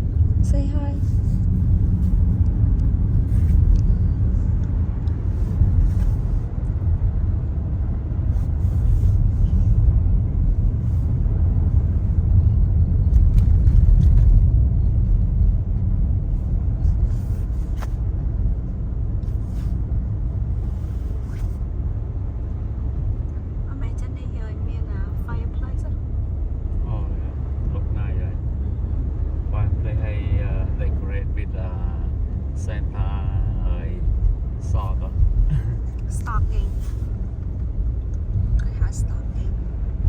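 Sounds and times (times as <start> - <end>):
car cabin road rumble: 0.0 - 40.0.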